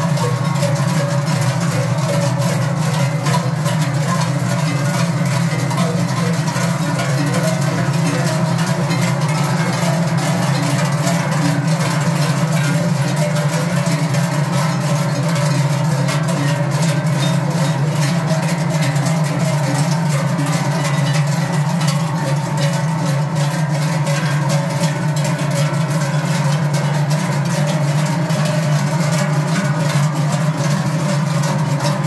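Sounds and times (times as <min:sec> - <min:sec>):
large cowbells clanging: 0:00.0 - 0:32.0.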